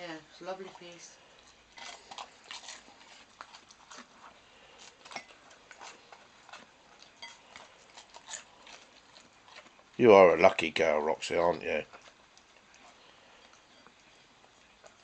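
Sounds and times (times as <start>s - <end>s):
puppy chewing and licking: 0.0s - 15.0s.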